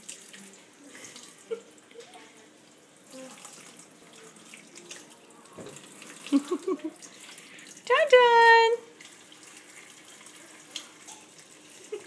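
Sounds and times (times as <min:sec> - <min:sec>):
faucet running into steel sink: 0:00.0 - 0:12.0.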